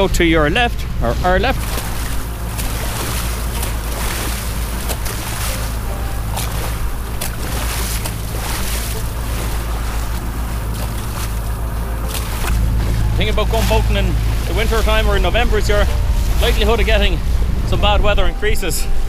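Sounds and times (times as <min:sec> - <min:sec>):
low engine drone: 0:00.0 - 0:19.0
water rushing along boat hull: 0:00.0 - 0:19.0
wind buffeting microphone: 0:00.0 - 0:19.0.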